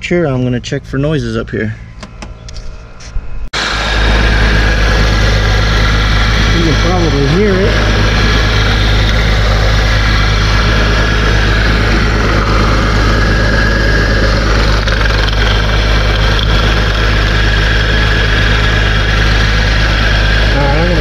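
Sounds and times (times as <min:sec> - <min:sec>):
car engine idling: 0:00.0 - 0:21.0
steady high whine: 0:00.0 - 0:21.0.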